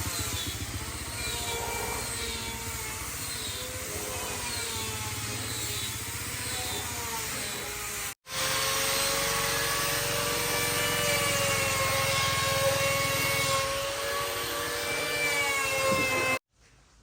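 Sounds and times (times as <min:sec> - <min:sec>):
motor running with whine: 0:00.0 - 0:16.4.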